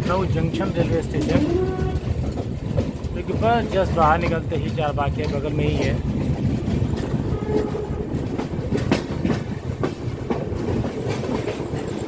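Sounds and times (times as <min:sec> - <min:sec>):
train low rumble: 0:00.0 - 0:12.0
train wheels clacking over joints: 0:00.0 - 0:12.0.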